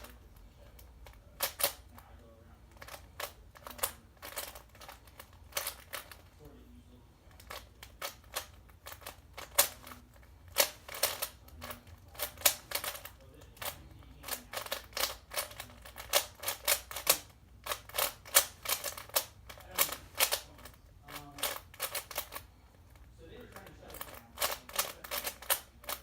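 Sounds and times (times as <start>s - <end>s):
plastic puzzle cube clicking: 0.0s - 2.1s, 2.7s - 6.3s, 7.3s - 26.0s.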